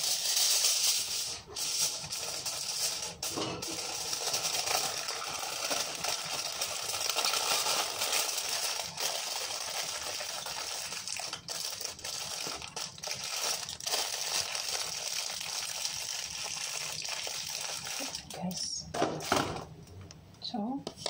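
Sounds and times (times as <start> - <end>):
aluminium foil crinkling: 0.0 - 18.6.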